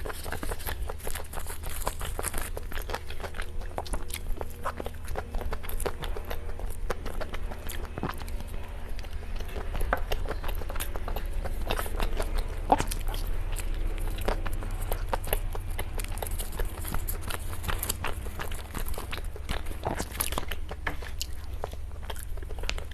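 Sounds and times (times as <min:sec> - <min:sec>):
chewing with wet mouth clicks: 0:00.0 - 0:22.9
steady low hum: 0:00.0 - 0:22.9.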